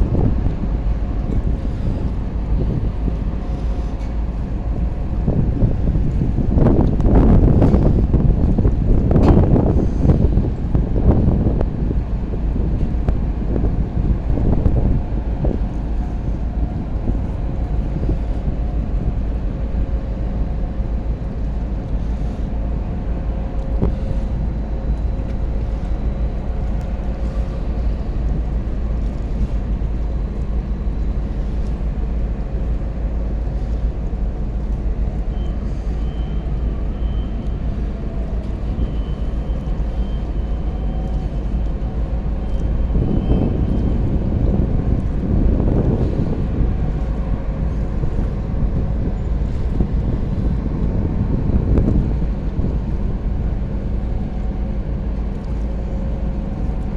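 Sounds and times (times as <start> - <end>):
boat engine running: 0.0 - 56.9
wind buffeting microphone: 0.0 - 56.9.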